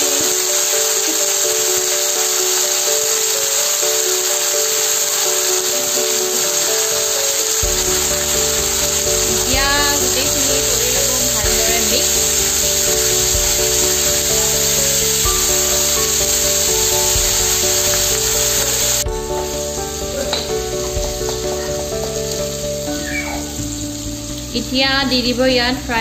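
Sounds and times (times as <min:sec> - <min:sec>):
background music: 0:00.0 - 0:26.0
leaves sizzling in hot oil: 0:00.0 - 0:26.0.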